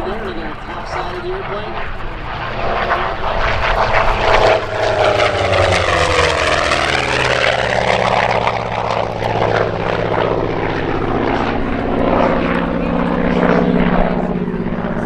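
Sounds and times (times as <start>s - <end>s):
aircraft engines flying past: 0.0s - 15.0s.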